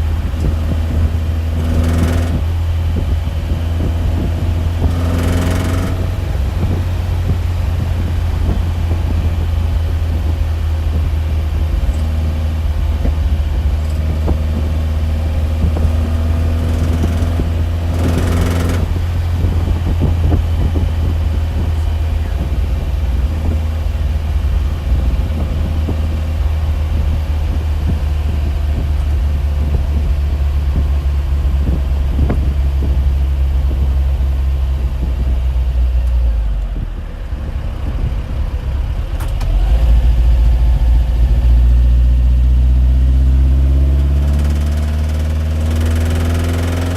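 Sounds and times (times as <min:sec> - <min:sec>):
loud low rumbling drone: 0:00.0 - 0:46.9.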